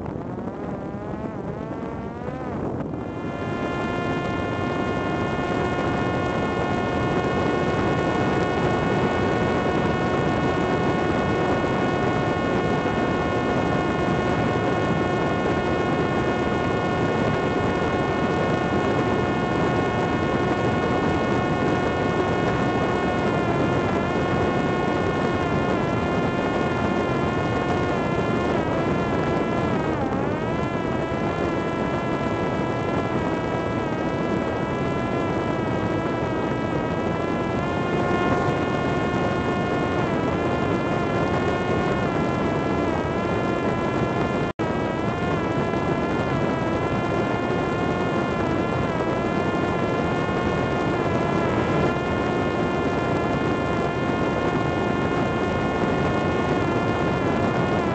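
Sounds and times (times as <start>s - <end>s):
drone motor and propeller whining: 0.0s - 57.9s.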